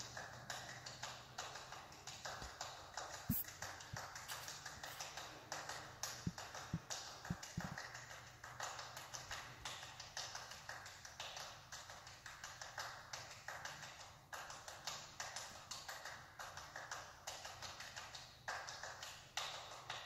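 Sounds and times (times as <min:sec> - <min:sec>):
rhythmic hand clapping: 0:00.0 - 0:20.0.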